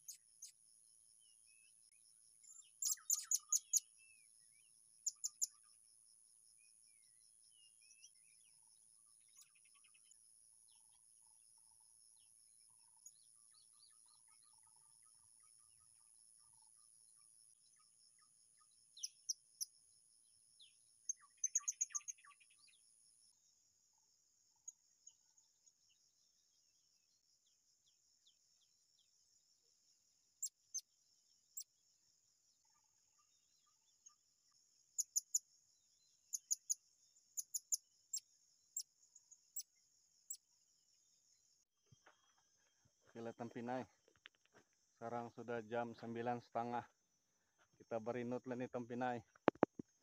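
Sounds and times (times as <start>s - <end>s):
small birds chirping: 0.0s - 29.4s, 30.3s - 50.0s
faint insect drone: 0.0s - 50.0s.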